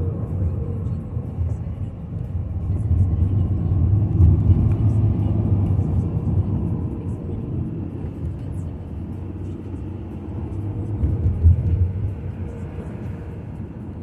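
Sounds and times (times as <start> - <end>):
car road noise drone: 0.0 - 14.0.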